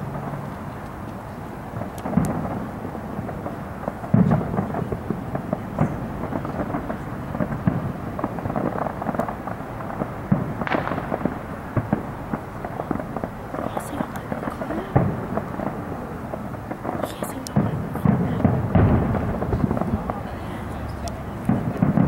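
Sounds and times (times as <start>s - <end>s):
crackling pops: 0.0s - 22.0s
fireworks booming: 0.0s - 22.0s.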